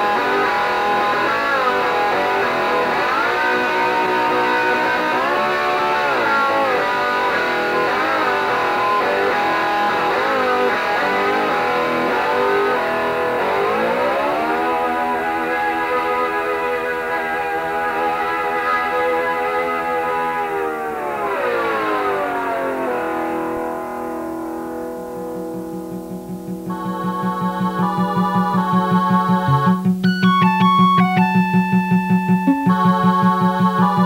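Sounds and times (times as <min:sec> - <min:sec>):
guitar-led music: 0:00.0 - 0:34.0.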